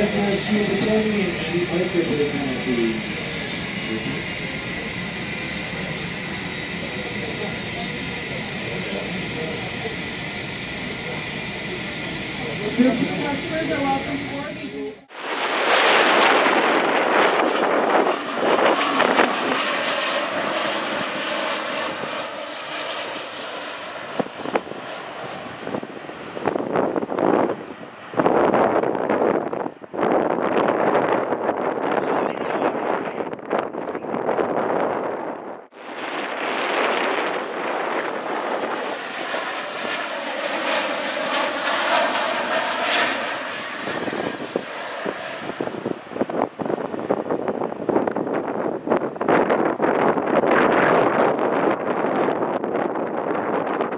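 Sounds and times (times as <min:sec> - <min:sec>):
jet engines rushing: 0:00.0 - 0:53.9
wind buffeting microphone: 0:00.0 - 0:53.9.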